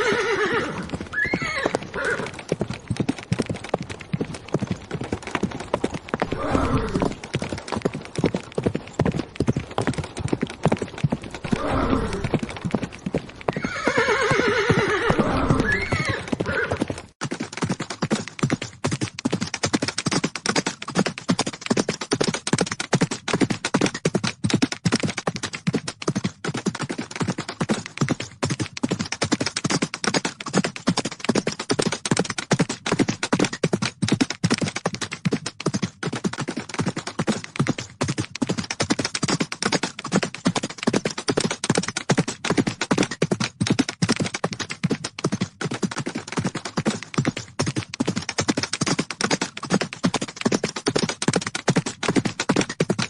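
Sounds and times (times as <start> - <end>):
hoofbeats of galloping horses: 0.0 - 53.0.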